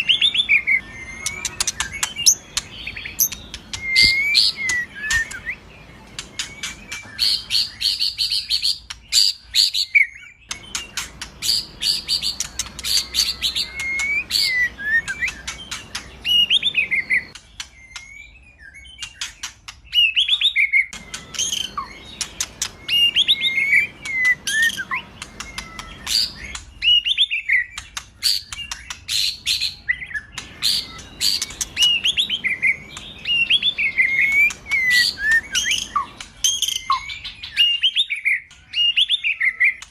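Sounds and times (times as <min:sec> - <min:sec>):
bird ticks and chattering trills: 0:00.0 - 0:09.8, 0:10.4 - 0:18.2, 0:19.0 - 0:39.9
songbird whistling song: 0:00.0 - 0:39.9.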